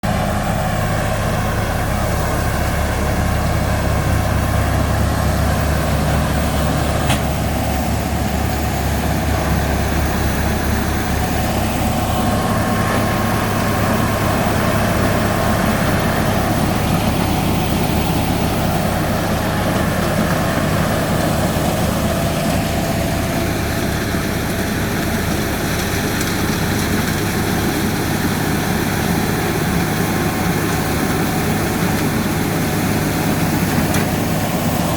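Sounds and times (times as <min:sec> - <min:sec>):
heavy diesel engine humming: 0:00.0 - 0:34.9.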